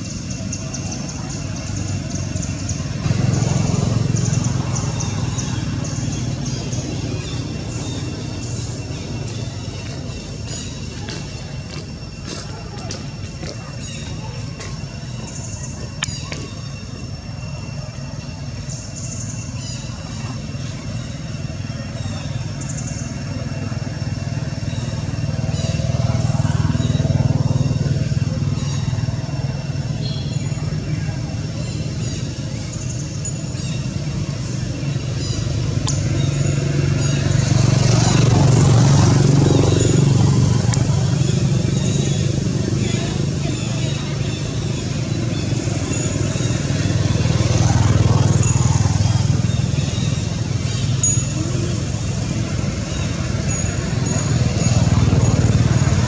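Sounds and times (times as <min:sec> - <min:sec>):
motor engine running: 0:00.0 - 0:56.0.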